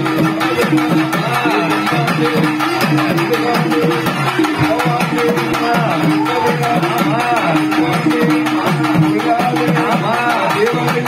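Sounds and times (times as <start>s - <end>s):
temple drums in fast rhythm: 0.0s - 11.0s.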